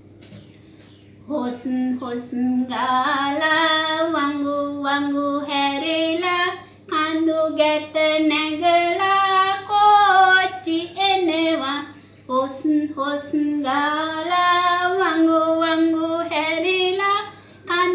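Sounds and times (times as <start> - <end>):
woman singing unaccompanied: 1.3 - 17.9.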